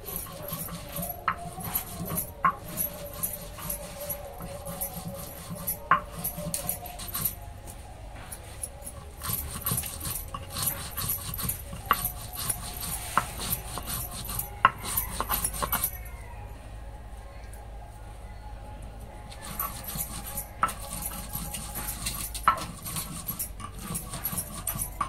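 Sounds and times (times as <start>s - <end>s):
grinding stone scraping on board: 0.0s - 7.4s, 8.9s - 16.1s, 19.3s - 25.0s.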